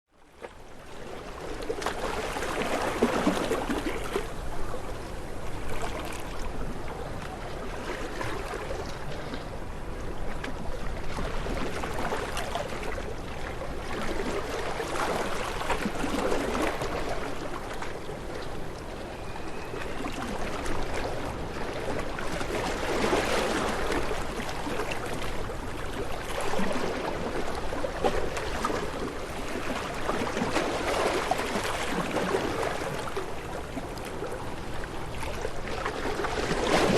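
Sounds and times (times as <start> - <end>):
waves washing in: 0.6 - 36.9.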